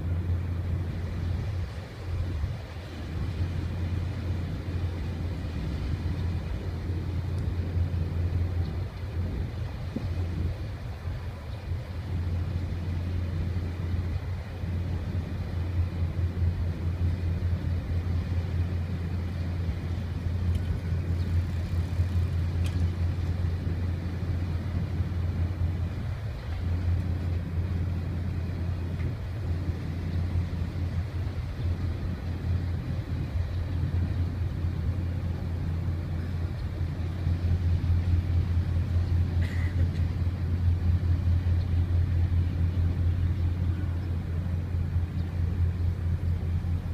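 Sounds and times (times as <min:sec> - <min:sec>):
ship engines rumbling: 0:00.0 - 0:46.9.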